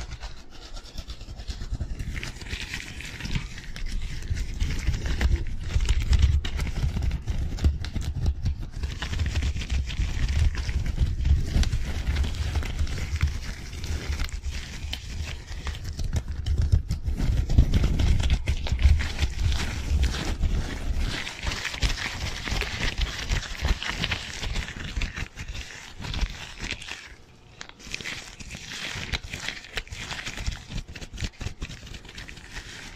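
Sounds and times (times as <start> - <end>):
gloves crinkling and crackling: 0.0 - 32.9.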